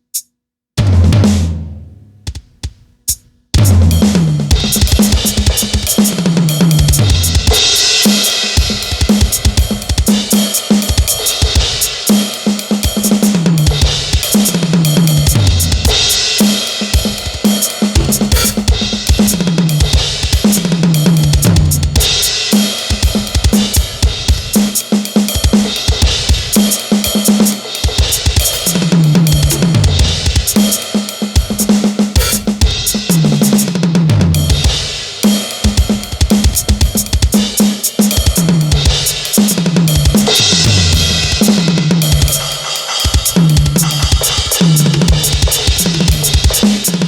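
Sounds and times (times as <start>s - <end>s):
electronic drum kit playing: 0.0s - 47.0s.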